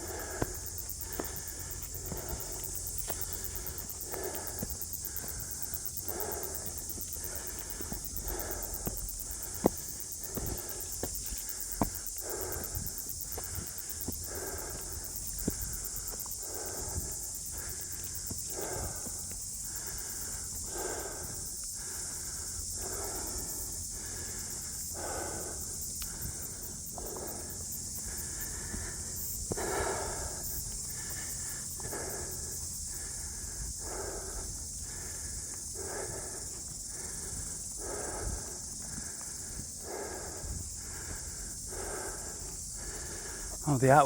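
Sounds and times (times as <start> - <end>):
person breathing heavily: 0.0 - 44.0.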